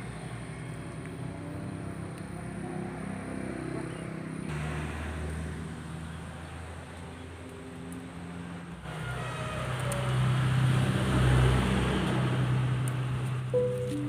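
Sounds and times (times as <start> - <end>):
road noise: 0.0 - 14.0
vehicle engine passing by: 0.0 - 14.0.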